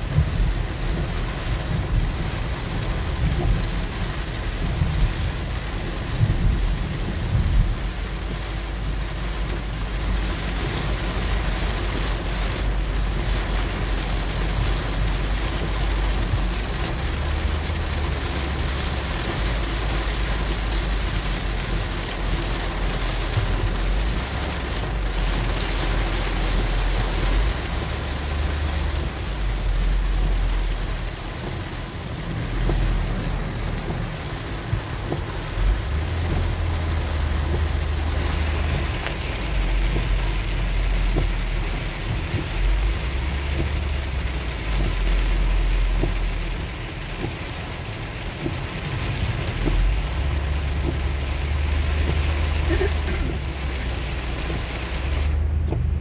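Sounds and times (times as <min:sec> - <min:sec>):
heavy rain on car windshield: 0:00.0 - 0:56.0
tyres rumbling on wet road: 0:00.0 - 0:56.0.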